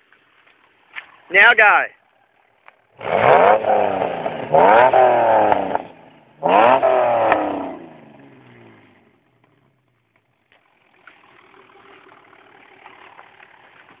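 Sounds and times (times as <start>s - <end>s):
car engine revving to idle: 2.2s - 14.0s.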